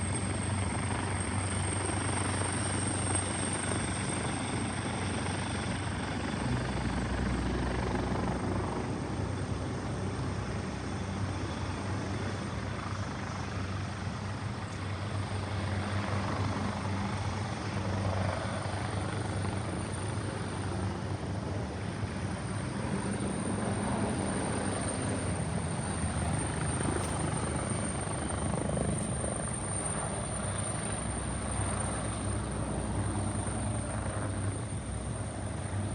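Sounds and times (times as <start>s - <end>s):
aircraft engines running: 0.0s - 35.9s.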